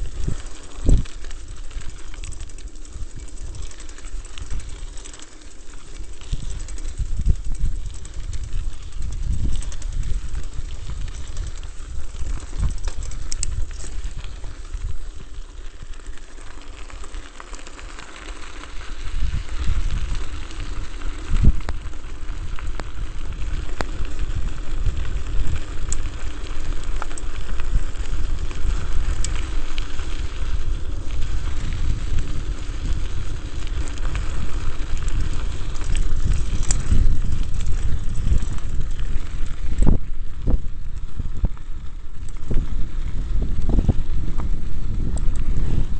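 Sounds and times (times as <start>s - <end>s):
wind buffeting microphone: 0.0s - 17.1s, 18.6s - 45.9s
tyres rattling over gravel: 0.0s - 45.9s.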